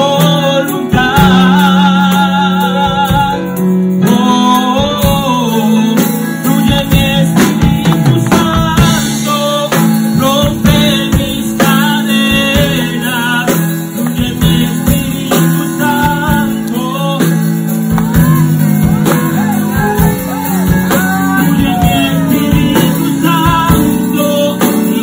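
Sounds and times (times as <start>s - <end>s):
keyboard and bass notes: 0.0s - 25.0s
person singing: 0.0s - 25.0s
percussion hits: 2.8s - 25.0s.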